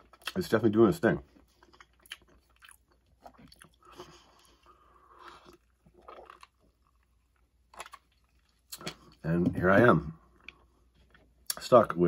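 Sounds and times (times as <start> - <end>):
chewing with soft crunches: 0.0 - 11.8.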